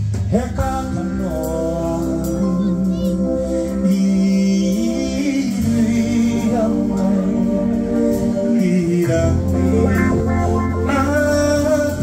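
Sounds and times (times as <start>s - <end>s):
bass notes: 0.0s - 12.0s
person singing: 0.3s - 12.0s
electric guitar: 0.6s - 12.0s
keyboard chords: 0.6s - 12.0s.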